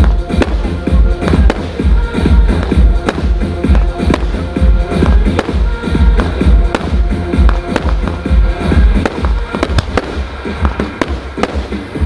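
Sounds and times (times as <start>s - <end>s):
fireworks bangs and crackles: 0.0s - 12.0s
music with heavy bass beat: 0.0s - 12.0s.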